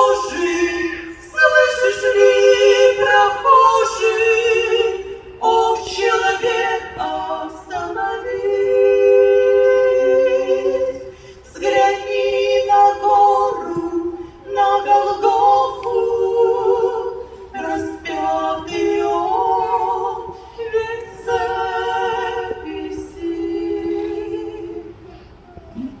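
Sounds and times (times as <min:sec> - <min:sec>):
choir singing a hymn: 0:00.0 - 0:26.0.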